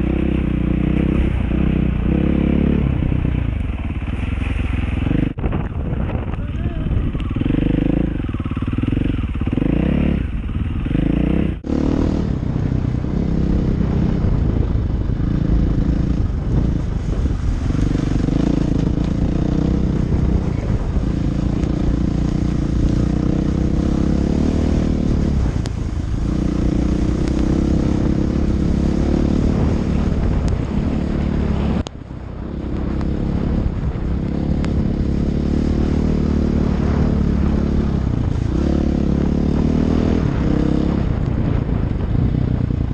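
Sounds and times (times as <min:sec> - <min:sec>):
dirt bike engine revving: 0:00.0 - 0:05.4, 0:06.6 - 0:14.6, 0:15.2 - 0:31.8, 0:32.5 - 0:41.6
wind noise on microphone: 0:00.0 - 0:42.9.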